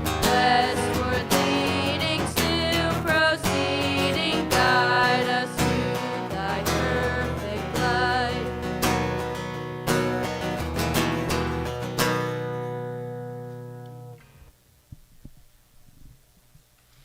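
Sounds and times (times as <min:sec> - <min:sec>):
strummed acoustic guitar music: 0:00.0 - 0:14.4.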